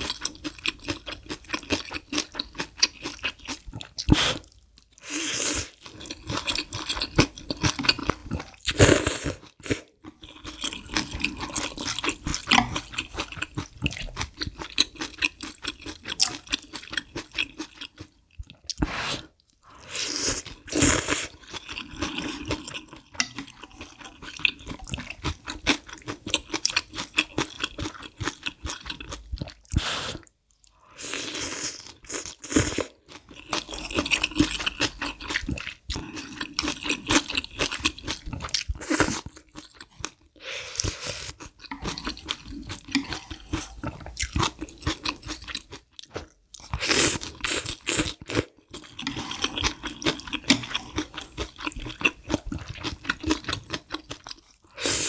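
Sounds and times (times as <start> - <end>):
chewing and slurping noodles: 0.0 - 55.0.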